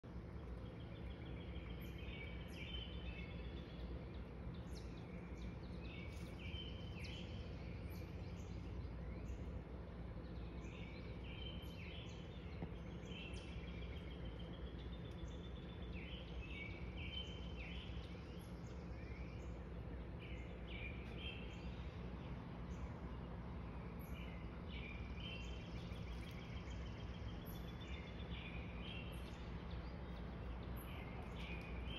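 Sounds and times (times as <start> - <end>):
low background hum: 0.0 - 31.9
songbird singing: 0.0 - 31.9.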